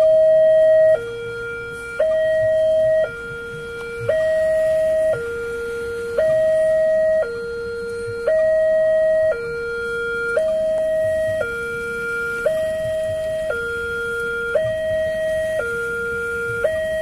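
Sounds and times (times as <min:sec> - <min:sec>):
two-tone level crossing alarm: 0:00.0 - 0:17.0.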